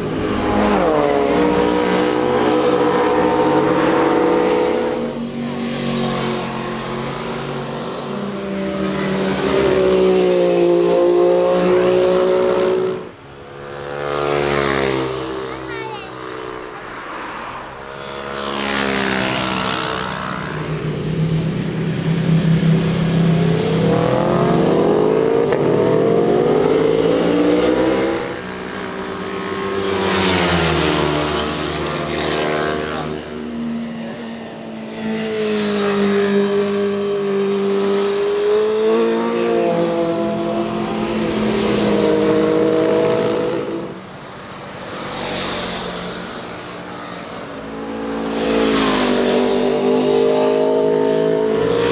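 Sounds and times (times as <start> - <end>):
motorcycles revving past: 0.0 - 51.9.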